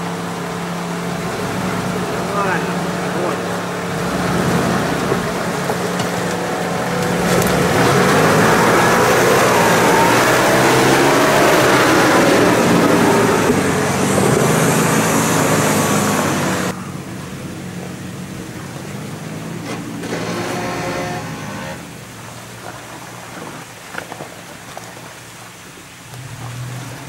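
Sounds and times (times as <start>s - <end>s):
vehicle driving over rough track: 0.0s - 24.4s
off-road vehicle engine running: 0.0s - 27.0s.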